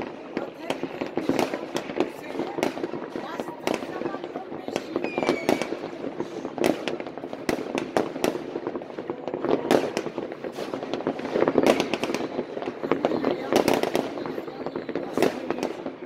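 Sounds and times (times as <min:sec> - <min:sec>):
background crackle: 0:00.0 - 0:16.0
fireworks and firecrackers banging: 0:00.0 - 0:16.0.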